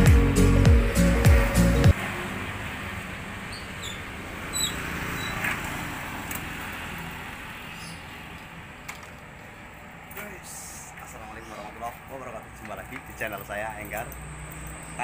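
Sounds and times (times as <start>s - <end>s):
motor scooter engines running: 0.7s - 15.0s.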